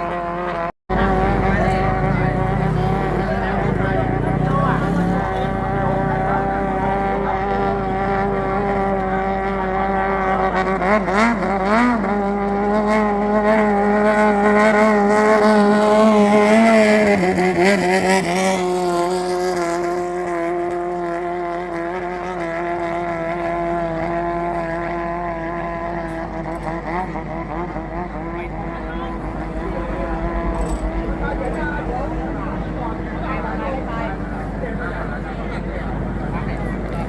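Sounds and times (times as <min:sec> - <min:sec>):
boat engine at high revs: 0:00.0 - 0:37.0.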